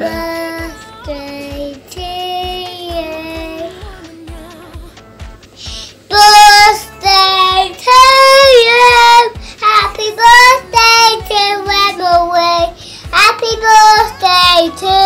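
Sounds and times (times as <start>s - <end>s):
young child singing: 0.0s - 4.8s, 6.1s - 15.0s.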